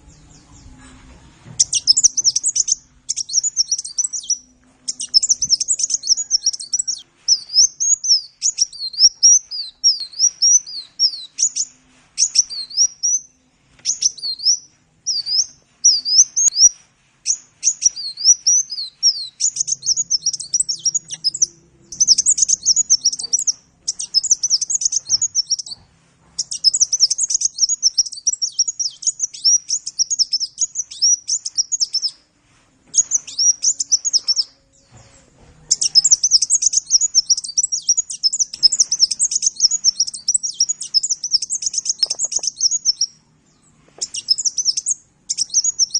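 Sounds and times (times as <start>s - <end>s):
sunbird singing high chirps: 0.0s - 1.0s, 1.6s - 32.2s, 32.9s - 45.9s.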